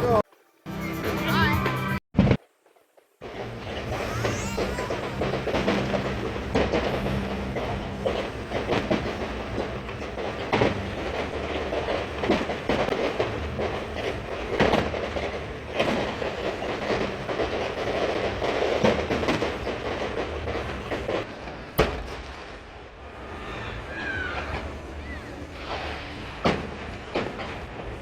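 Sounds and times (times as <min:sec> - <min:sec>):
fireworks crackling: 0:00.0 - 0:28.0
fireworks bangs: 0:01.4 - 0:28.0.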